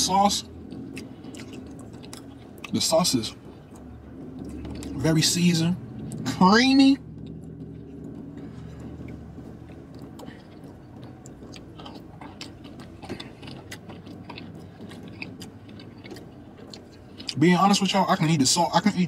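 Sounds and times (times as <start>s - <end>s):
low car cabin hum: 0.0s - 19.0s
man chewing: 0.0s - 19.0s.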